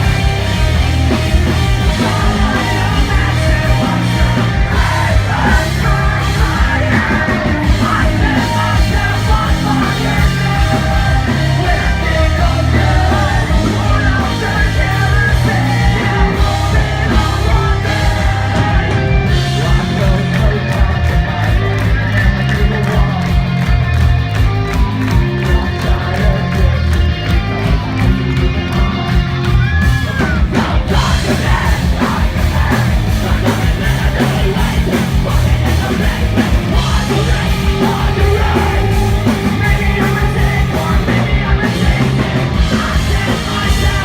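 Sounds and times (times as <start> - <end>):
fast drum beat: 0.0 - 44.0
live rock band playing: 0.0 - 44.0.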